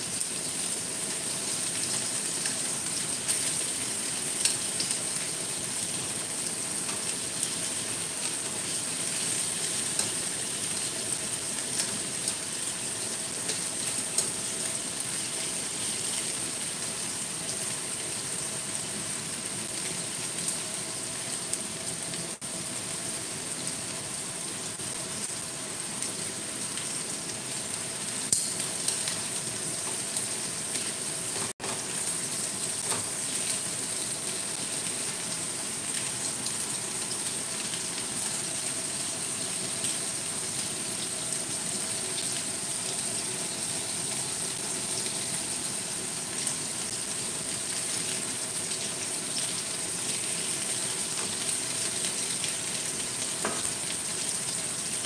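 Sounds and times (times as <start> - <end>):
chicken sizzling in a wok: 0.0 - 55.0.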